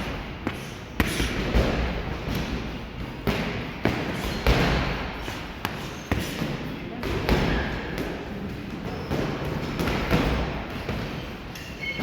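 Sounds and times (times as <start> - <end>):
boxing gym noise: 0.0 - 12.0.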